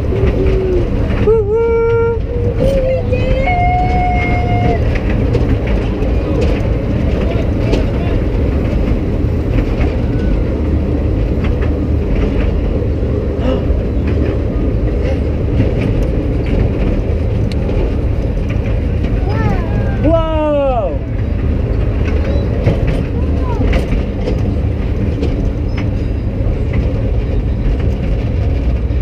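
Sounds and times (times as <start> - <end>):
train ride car rumbling on track: 0.0 - 29.0
clicks and rattles from car: 2.0 - 20.1, 21.1 - 29.0.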